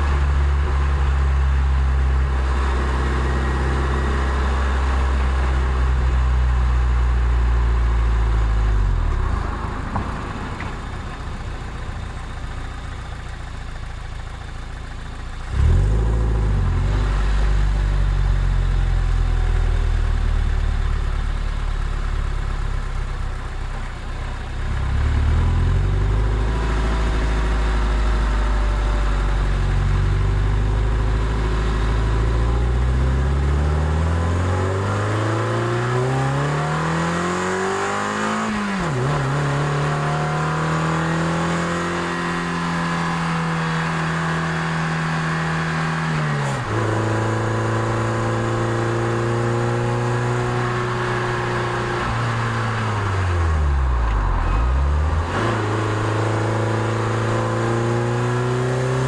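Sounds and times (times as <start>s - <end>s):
car engine revving under load: 0.0s - 20.4s, 24.7s - 59.0s.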